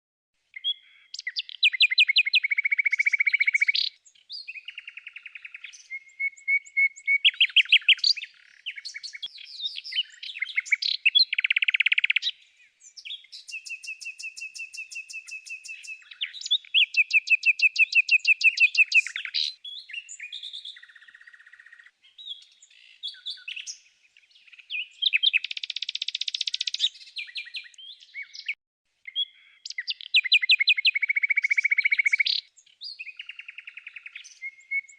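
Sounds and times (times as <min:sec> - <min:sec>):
songbirds trilling and chirping: 0:00.4 - 0:34.9.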